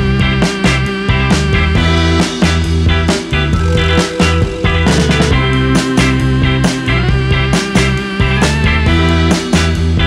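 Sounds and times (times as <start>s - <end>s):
rock song with steady beat: 0.0s - 10.0s.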